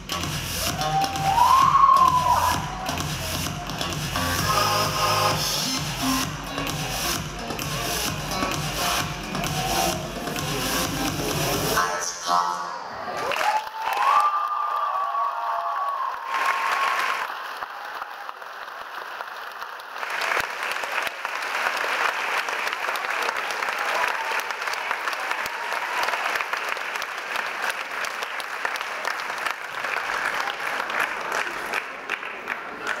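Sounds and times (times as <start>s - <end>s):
audience applauding: 0.6s - 11.7s, 13.1s - 33.0s.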